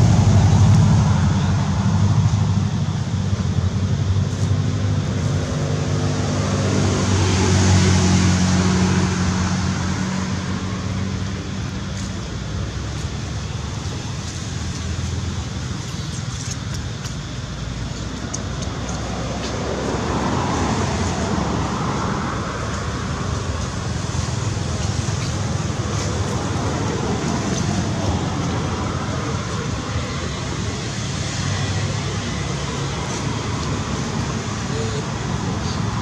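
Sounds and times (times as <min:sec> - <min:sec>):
road traffic: 0:00.0 - 0:36.0.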